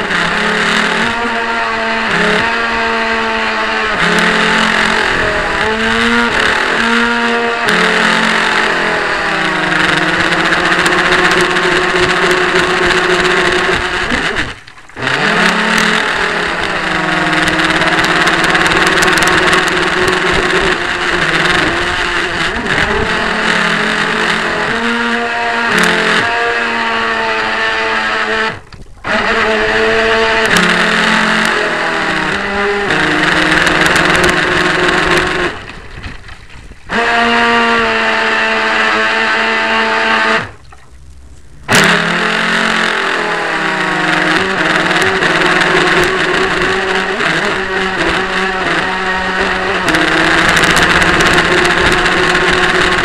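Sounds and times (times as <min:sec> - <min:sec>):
model boat motor running: 0:00.0 - 0:53.0.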